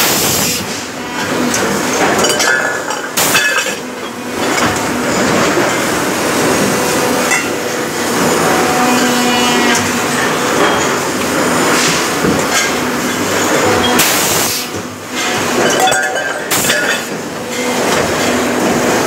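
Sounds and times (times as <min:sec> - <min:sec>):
machine-shop din: 0:00.0 - 0:19.0.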